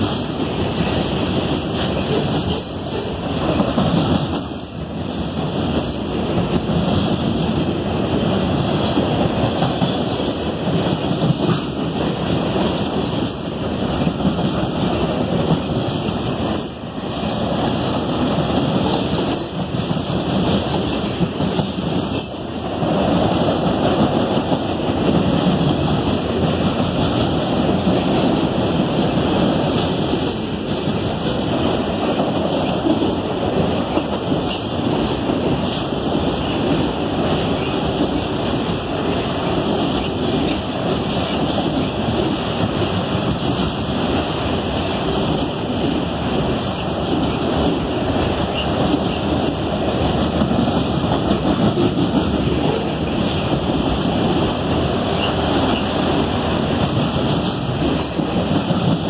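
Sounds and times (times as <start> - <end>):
train wheels running on rails: 0.0 - 59.0.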